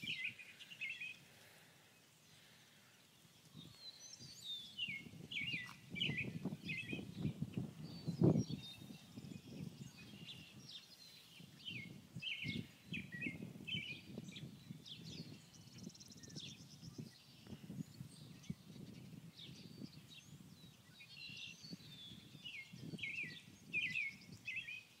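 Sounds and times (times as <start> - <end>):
songbirds chirping and singing: 0.0 - 25.0.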